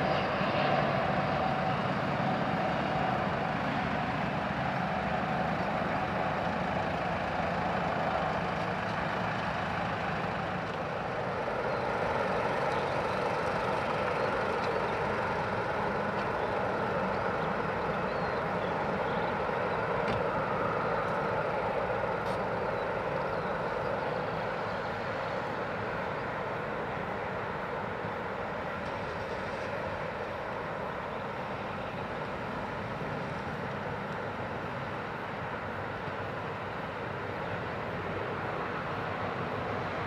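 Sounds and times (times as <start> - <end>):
jet engines humming: 0.0 - 40.0.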